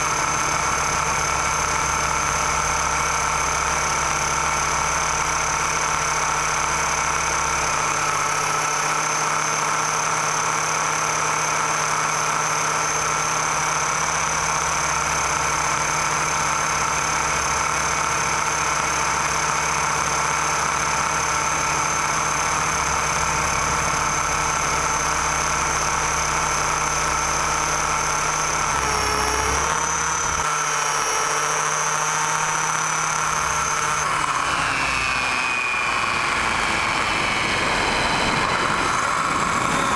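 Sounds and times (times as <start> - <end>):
model aircraft motor whining: 0.0 - 39.9.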